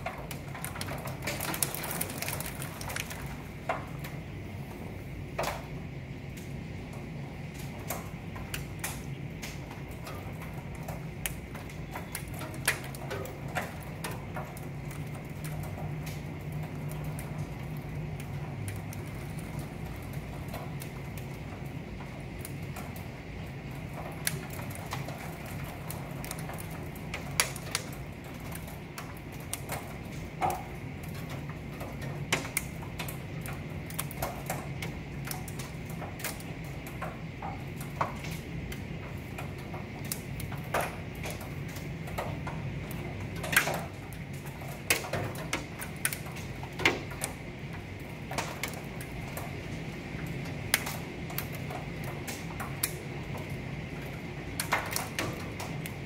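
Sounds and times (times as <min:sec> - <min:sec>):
hail and rain ticking on glass: 0:00.0 - 0:56.0.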